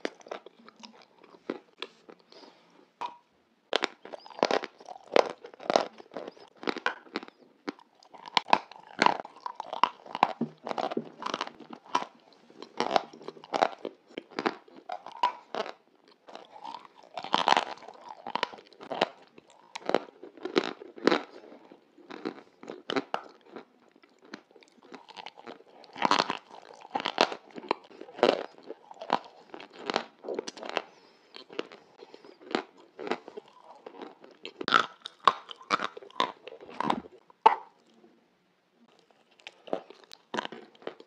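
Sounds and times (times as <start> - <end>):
wet chewing and lip smacking: 0.0 - 38.0, 38.9 - 41.0.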